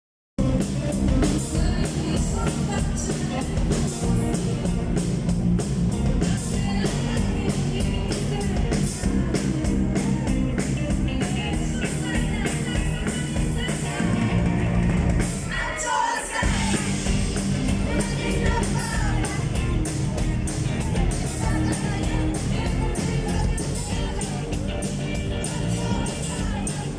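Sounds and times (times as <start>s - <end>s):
live rock band with singing: 0.4s - 26.9s.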